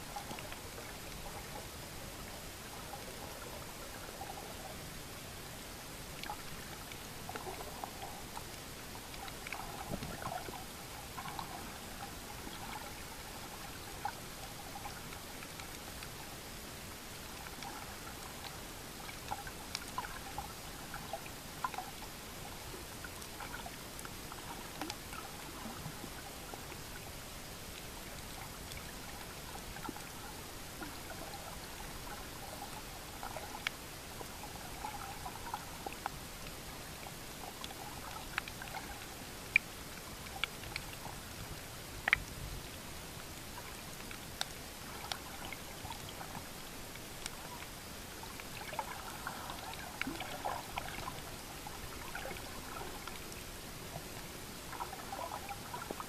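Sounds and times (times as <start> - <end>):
bubbly water gurgles: 0.0 - 56.0.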